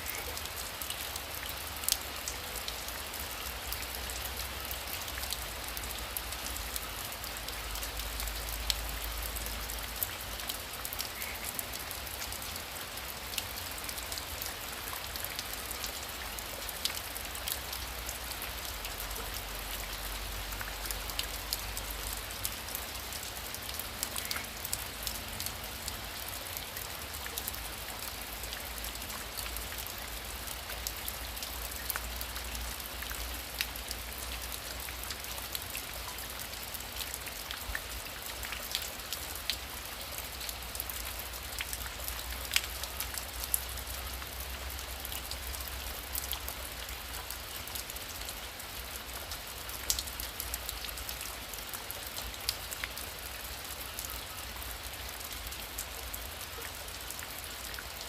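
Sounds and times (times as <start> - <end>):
heavy rain: 0.0 - 58.0
raindrops ticking close by: 0.0 - 58.0.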